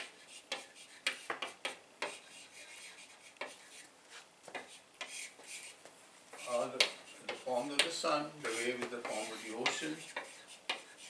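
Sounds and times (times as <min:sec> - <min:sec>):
chalk scratching on blackboard: 0:00.0 - 0:11.0.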